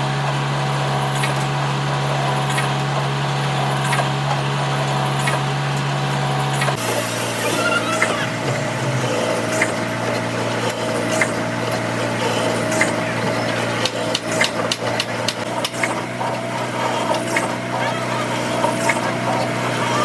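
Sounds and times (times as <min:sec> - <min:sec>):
machine motor running: 0:00.0 - 0:20.0.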